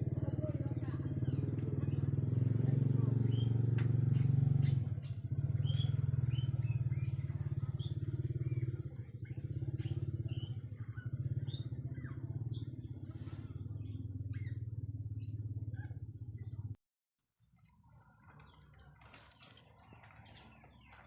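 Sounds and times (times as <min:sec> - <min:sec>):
small engine idling: 0:00.0 - 0:16.8, 0:17.4 - 0:21.0.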